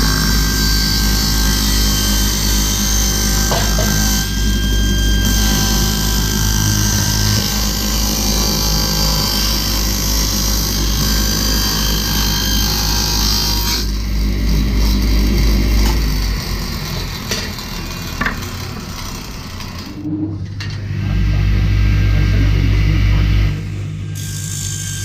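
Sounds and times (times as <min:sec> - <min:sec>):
power tool cutting wood: 0:00.0 - 0:25.0.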